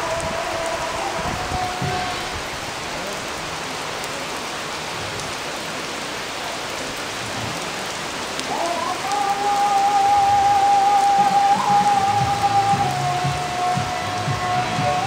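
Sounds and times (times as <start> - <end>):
rain on wet concrete: 0.0 - 15.0.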